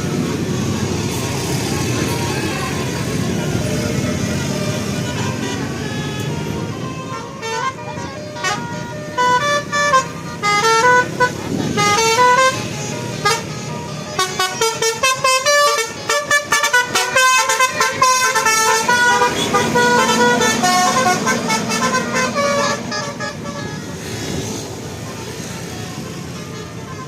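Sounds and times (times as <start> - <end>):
multi-tone musical bus horn: 0.0 - 27.0.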